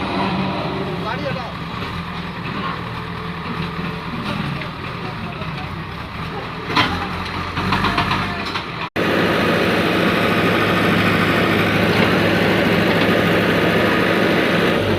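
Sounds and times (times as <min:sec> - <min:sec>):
heavy vehicle engine idling: 0:00.0 - 0:14.9.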